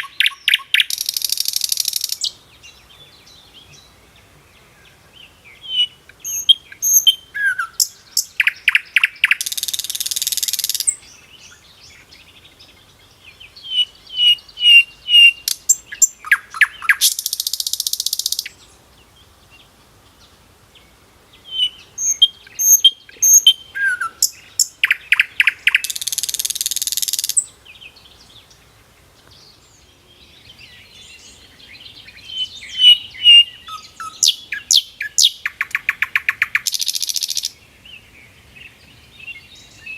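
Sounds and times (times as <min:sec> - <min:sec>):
songbird chirps trills and buzzing: 0:00.0 - 0:39.9.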